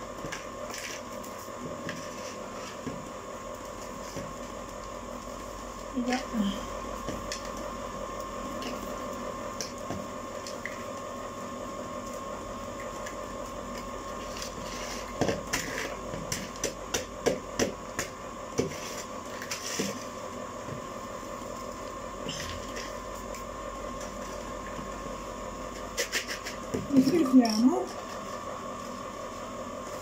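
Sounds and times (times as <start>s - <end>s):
ice cream maker humming: 0.0s - 30.0s.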